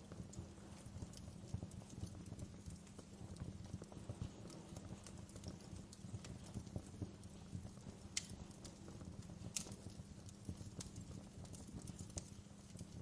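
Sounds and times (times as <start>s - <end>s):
rumble of flames: 0.0s - 13.0s
wood fire crackling: 0.0s - 13.0s.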